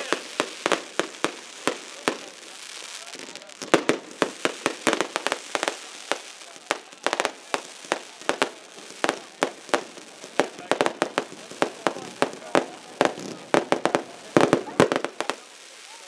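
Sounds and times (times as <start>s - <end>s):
fireworks bangs: 0.0s - 16.0s
fireworks crackling: 0.0s - 16.0s
fireworks hiss: 0.0s - 16.0s.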